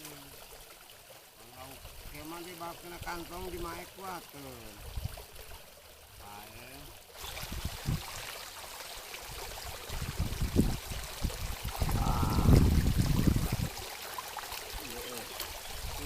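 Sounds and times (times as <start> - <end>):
water splashing and sloshing: 0.0 - 16.0
water trickling: 0.0 - 16.0.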